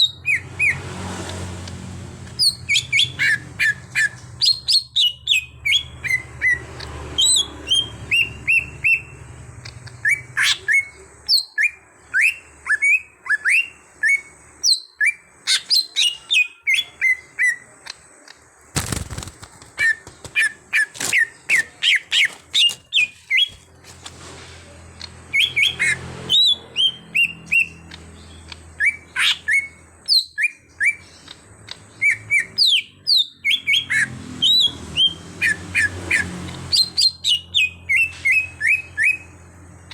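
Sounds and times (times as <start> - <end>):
bird chirping and whistling: 0.0 - 0.8, 2.4 - 17.8, 19.8 - 23.6, 25.3 - 39.9.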